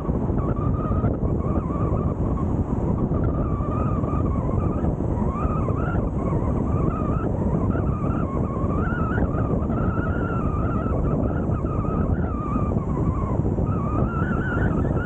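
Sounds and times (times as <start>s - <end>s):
faint wavering whine: 0.0s - 15.0s
tyre and wind noise: 0.0s - 15.0s.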